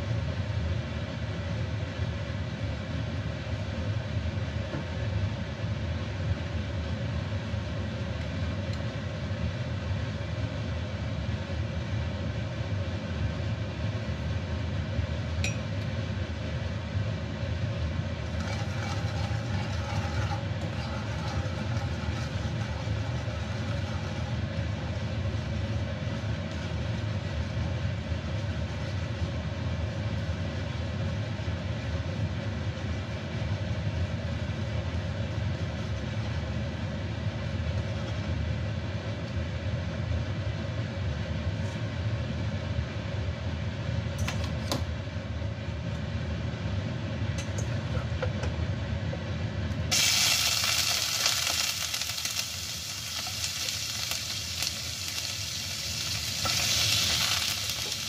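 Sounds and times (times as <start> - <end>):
stove low rumble with hiss: 0.0 - 58.0.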